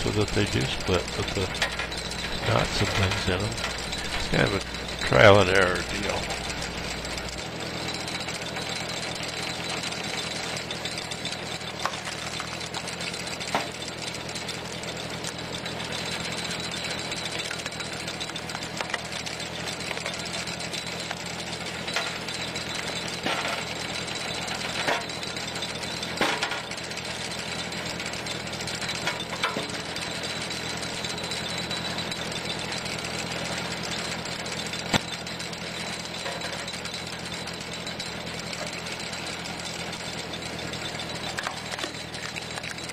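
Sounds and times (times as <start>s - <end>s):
tractor engine running: 0.0s - 42.9s
wood cracking under screw splitter: 5.8s - 32.0s, 32.7s - 42.9s.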